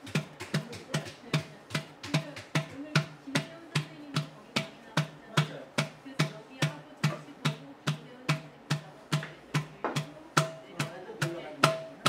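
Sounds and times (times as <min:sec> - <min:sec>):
wooden paddle slapping clay: 0:00.0 - 0:12.0.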